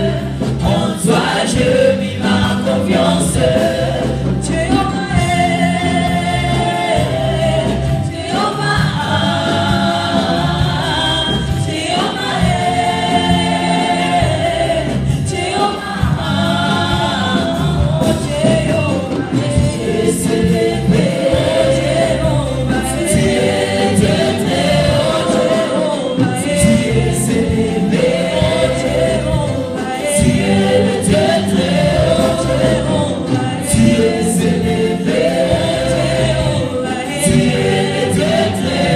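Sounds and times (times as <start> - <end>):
gospel choir singing: 0.0 - 38.9.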